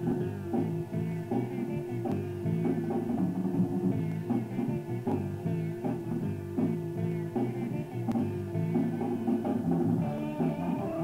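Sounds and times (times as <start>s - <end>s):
bass line: 0.0s - 11.0s
drum kit: 0.0s - 11.0s
electric guitars: 0.0s - 11.0s.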